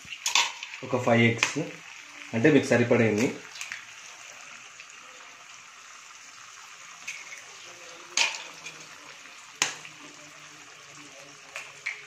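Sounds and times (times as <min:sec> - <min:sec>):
eggs sizzling in hot oil: 0:00.0 - 0:12.0.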